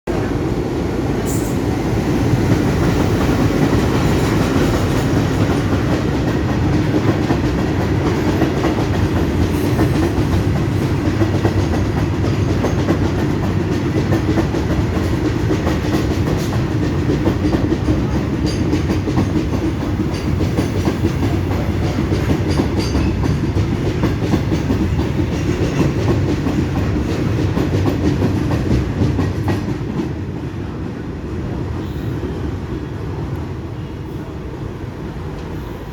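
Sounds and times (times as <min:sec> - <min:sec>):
train wagons rumbling: 0:00.1 - 0:31.8.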